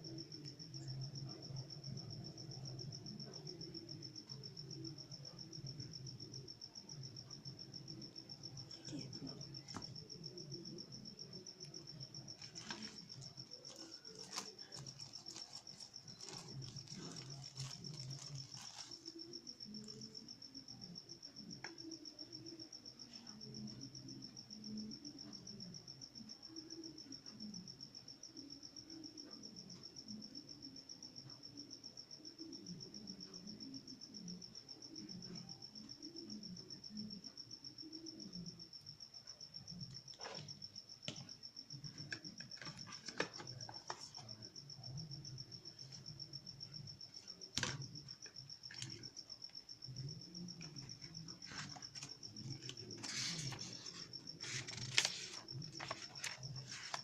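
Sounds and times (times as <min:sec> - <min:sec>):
cricket trilling: 0:00.0 - 0:57.0.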